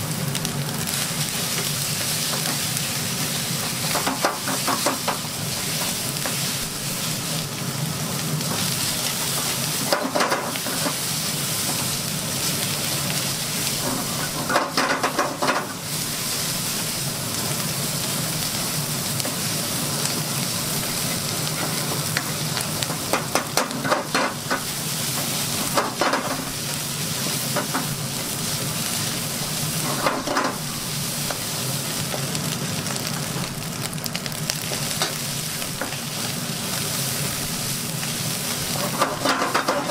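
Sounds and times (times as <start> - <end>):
rice sizzling in a wok: 0.0 - 39.9.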